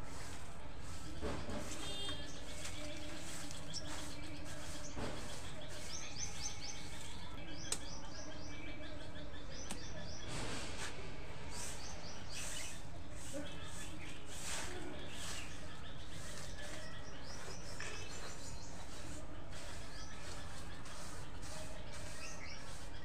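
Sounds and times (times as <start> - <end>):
broom swishing on concrete: 0.0 - 7.4, 10.0 - 23.0
birds chirping: 0.0 - 23.0.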